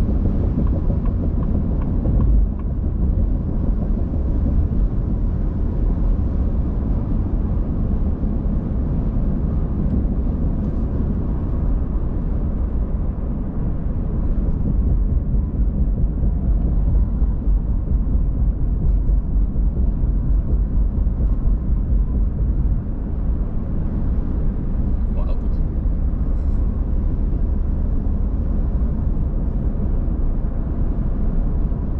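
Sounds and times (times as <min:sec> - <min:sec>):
car driving on road: 0:00.0 - 0:31.9.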